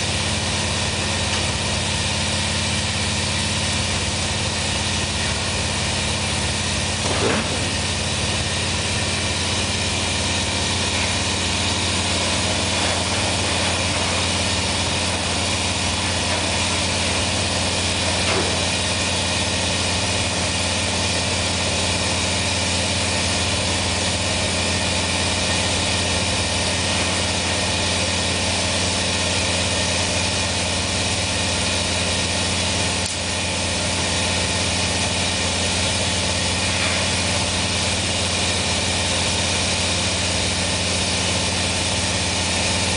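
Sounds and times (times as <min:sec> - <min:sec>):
furnace burner rushing: 0:00.0 - 0:42.9.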